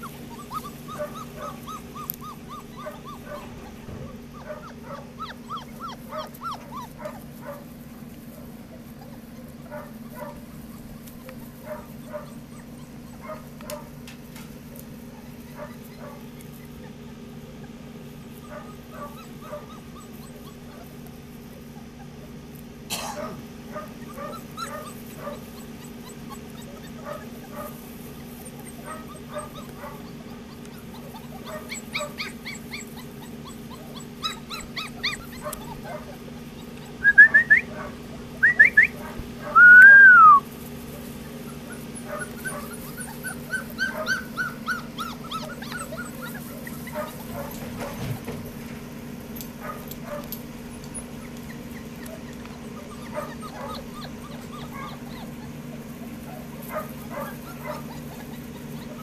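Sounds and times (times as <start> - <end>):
puppy yelps: 0.0 - 7.7, 8.4 - 14.0, 14.7 - 22.5, 23.2 - 48.4, 49.6 - 59.0
puppies whimpering and squeaking: 0.0 - 59.0
puppy whining: 0.0 - 59.0.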